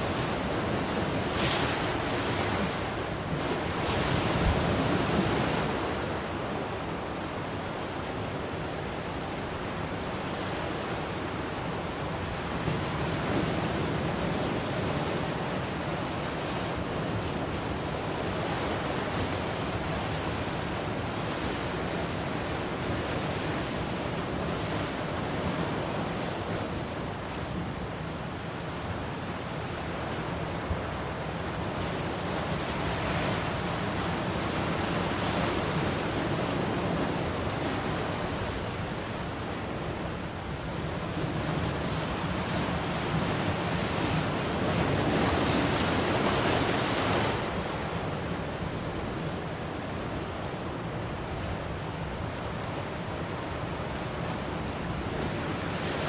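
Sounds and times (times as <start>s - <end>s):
ocean waves washing on shore: 0.0s - 56.0s.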